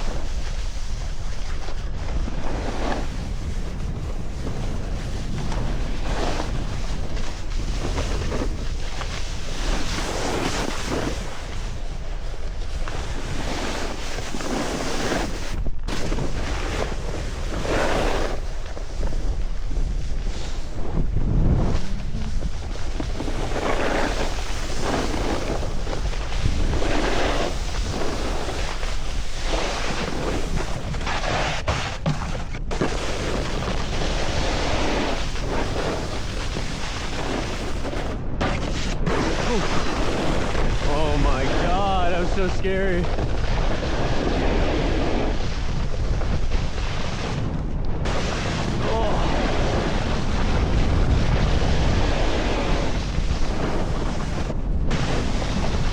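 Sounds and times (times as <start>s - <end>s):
snowboard edge scraping snow: 0.0s - 55.9s
wind buffeting microphone: 0.0s - 55.9s.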